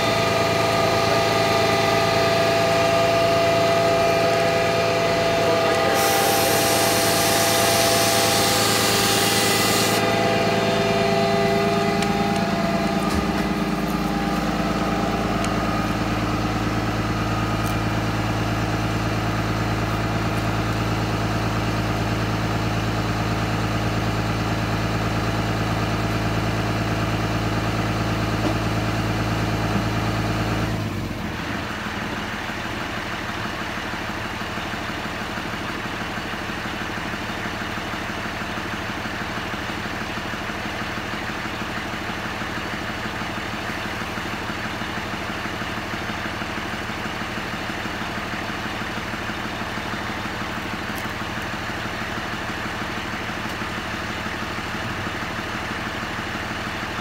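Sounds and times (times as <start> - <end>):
truck engine and pump humming: 0.0 - 57.0.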